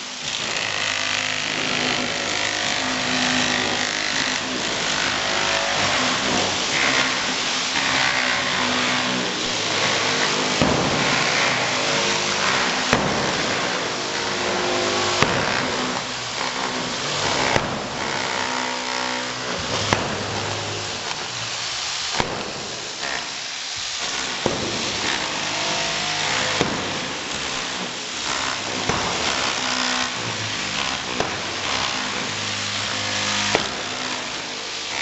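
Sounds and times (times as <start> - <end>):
demolition hammer on concrete: 0.0 - 35.0.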